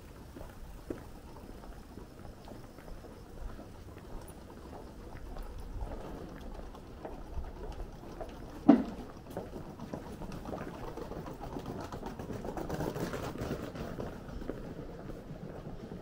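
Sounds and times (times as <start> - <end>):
street background: 0.0 - 16.0.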